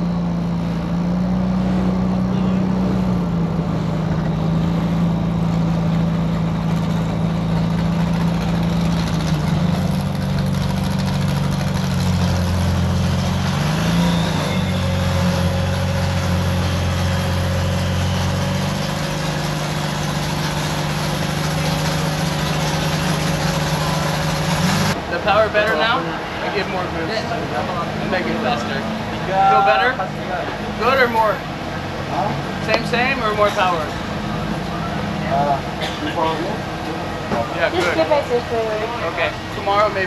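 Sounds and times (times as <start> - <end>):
race car engine running: 0.0 - 40.0.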